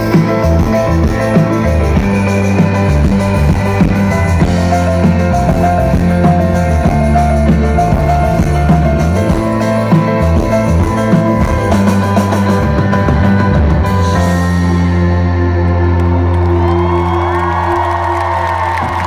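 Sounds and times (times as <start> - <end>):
live rock band playing loudly: 0.0 - 19.0.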